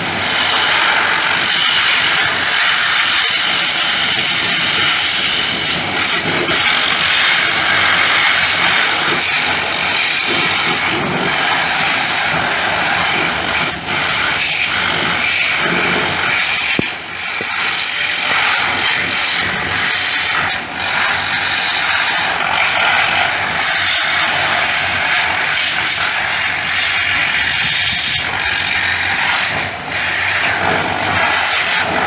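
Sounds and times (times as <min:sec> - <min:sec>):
pressure washer spraying water: 0:00.0 - 0:32.0.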